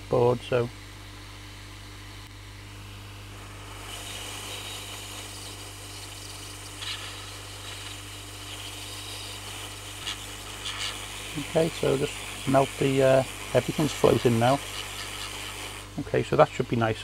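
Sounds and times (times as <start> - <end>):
hot-air blower hiss: 0.0 - 17.0
low mains hum: 0.0 - 17.0.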